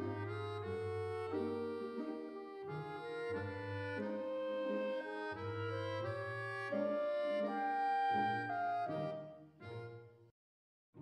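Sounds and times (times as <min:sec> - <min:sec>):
background music with held chords: 0:00.0 - 0:10.2.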